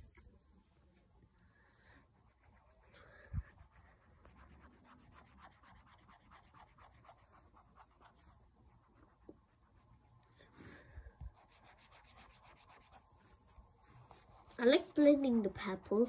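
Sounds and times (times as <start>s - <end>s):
paintbrush scratching on paper: 2.0s - 15.5s.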